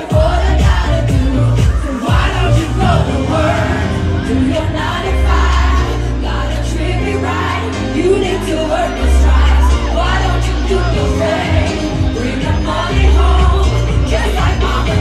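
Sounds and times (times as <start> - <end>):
live pop band: 0.0 - 15.0
person singing: 0.0 - 15.0.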